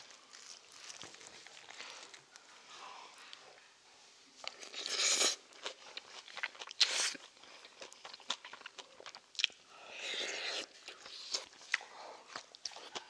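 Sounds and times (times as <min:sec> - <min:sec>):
chewing crunchy food: 0:00.0 - 0:02.5, 0:04.4 - 0:13.0.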